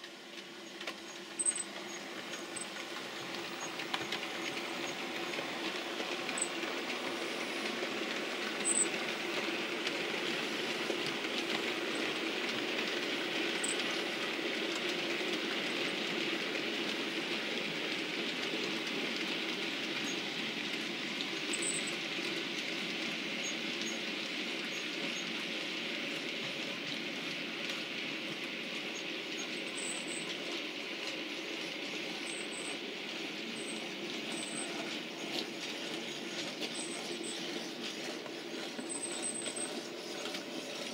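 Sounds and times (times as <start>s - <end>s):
model train whirring on rails: 0.0s - 40.9s.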